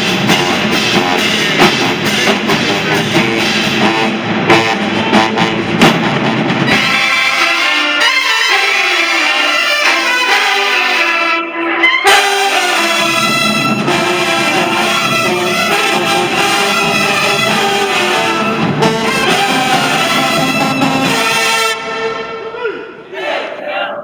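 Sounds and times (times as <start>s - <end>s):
brass section playing: 0.0s - 23.3s.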